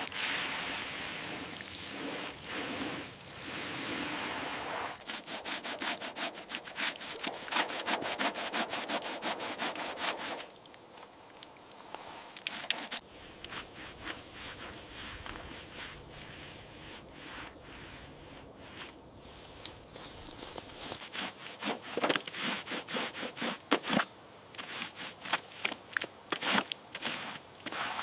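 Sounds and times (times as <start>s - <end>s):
rubbing strokes on a surface: 0.2s - 10.5s, 12.4s - 19.6s, 20.8s - 24.0s, 24.6s - 25.7s, 26.4s - 28.0s.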